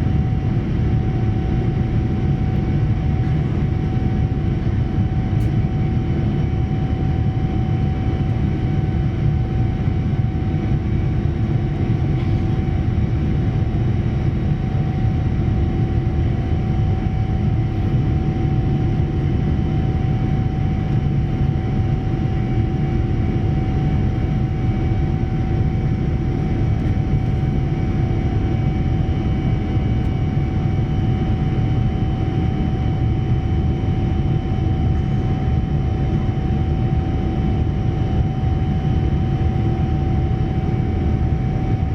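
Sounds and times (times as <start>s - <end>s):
airliner cabin airflow and engines: 0.0s - 41.9s
constant tonal hum: 0.0s - 41.9s.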